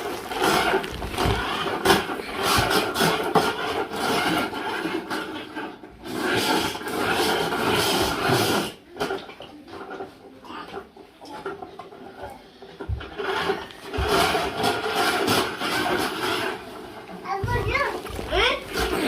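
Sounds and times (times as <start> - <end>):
plastic wheels rolling on hard floor: 0.0 - 19.0.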